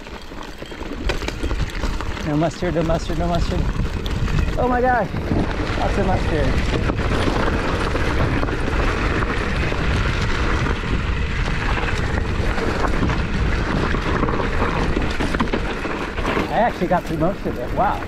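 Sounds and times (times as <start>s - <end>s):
bike clicks and rattles: 0.0s - 18.0s
tyres rolling on dirt: 0.0s - 18.0s
wind rush on microphone: 1.0s - 18.0s.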